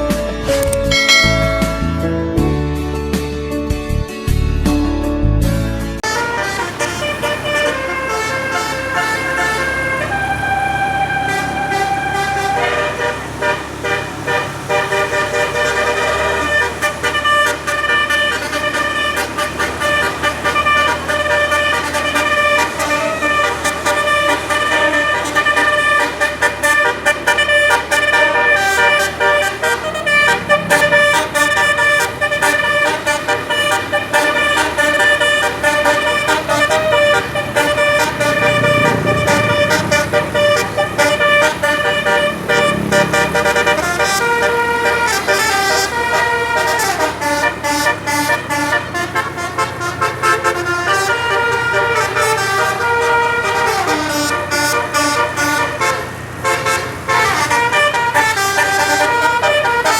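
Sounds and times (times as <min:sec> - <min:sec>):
musical air horn playing a tune: 0:06.0 - 0:59.9.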